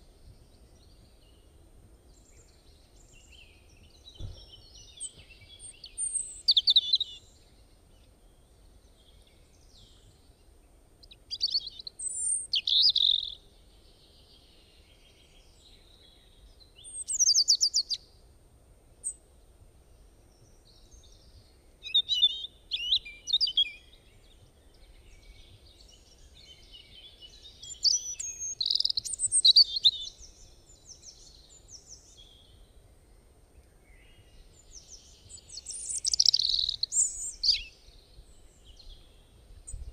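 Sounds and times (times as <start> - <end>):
small birds chirping: 0.0 - 18.2, 19.0 - 39.9.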